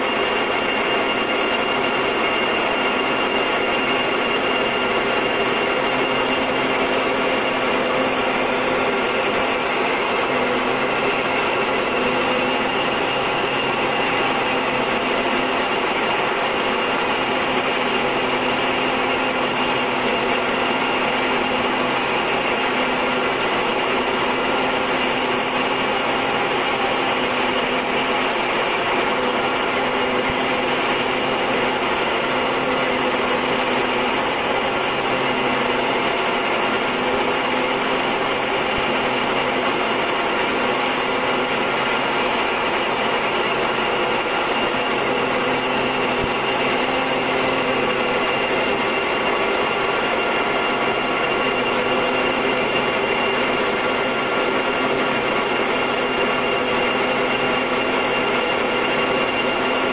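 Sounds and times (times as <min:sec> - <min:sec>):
turboprop engine drone: 0:00.0 - 0:59.9.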